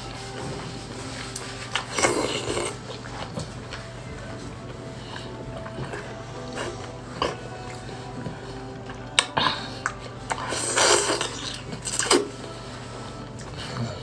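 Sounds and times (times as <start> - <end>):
slurping noodles: 0.0 - 14.0
soft background music: 0.0 - 14.0.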